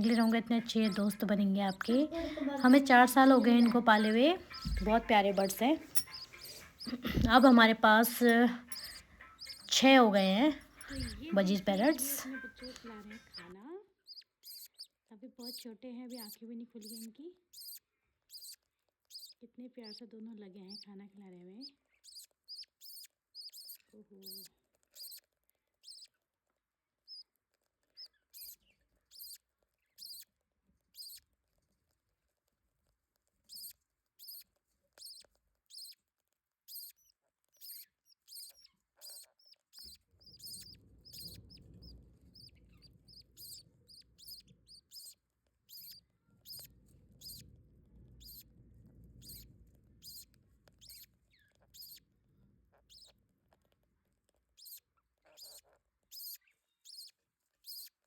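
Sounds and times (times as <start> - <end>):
nestlings squeaking begging peeps: 0.0 - 20.9, 21.5 - 25.2, 25.8 - 26.1, 28.0 - 29.4, 30.0 - 30.3, 30.9 - 31.2, 33.5 - 36.0, 36.7 - 48.5, 49.1 - 52.1, 52.7 - 53.2, 54.5 - 58.0.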